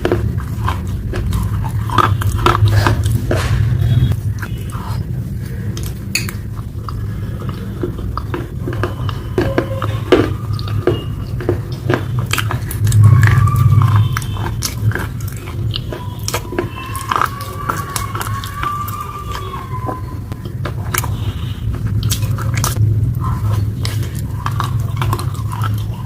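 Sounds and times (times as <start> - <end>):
steady low rumble: 0.0 - 16.8, 20.2 - 26.0
chewing and eating pasta: 0.0 - 26.0.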